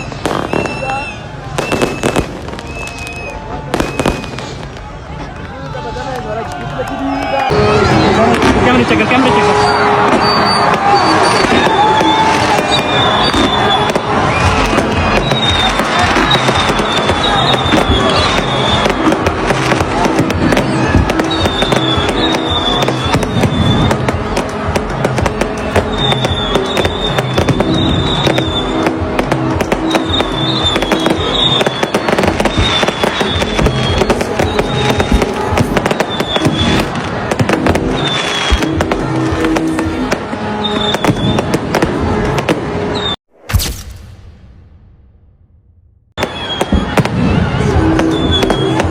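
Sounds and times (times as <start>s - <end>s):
fireworks crackling bangs: 0.0s - 6.8s, 7.4s - 45.0s, 46.2s - 48.9s
music playing: 0.0s - 43.2s, 46.2s - 48.9s.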